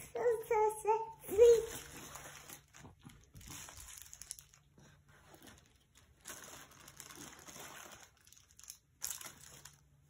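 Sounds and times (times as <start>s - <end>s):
plastic candy wrappers crinkling: 1.3s - 10.0s.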